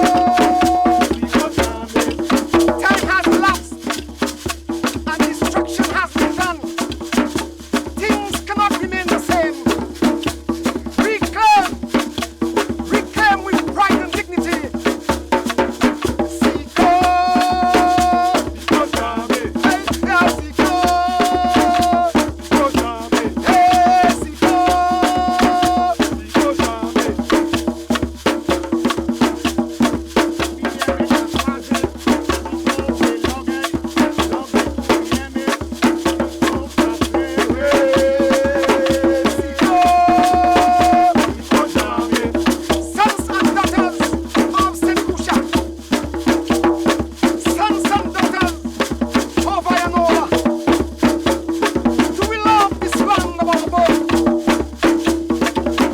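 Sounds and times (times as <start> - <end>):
rattling shaker percussion: 0.0 - 55.9.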